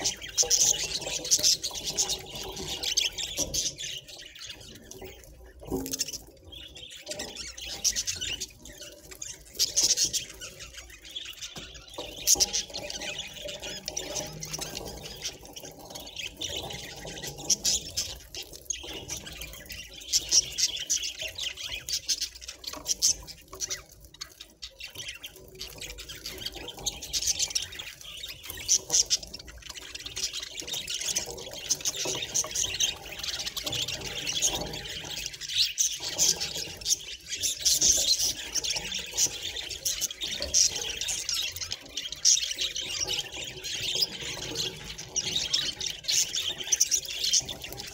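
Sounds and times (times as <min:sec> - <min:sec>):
budgie chattering and warbling: 0:00.0 - 0:47.9.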